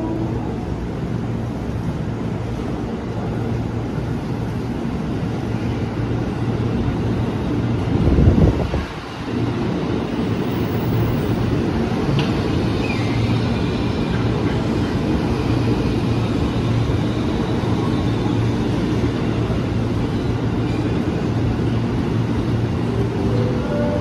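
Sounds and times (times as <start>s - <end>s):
train low hum: 0.0s - 24.0s
train wheels rumbling on rails: 0.0s - 24.0s.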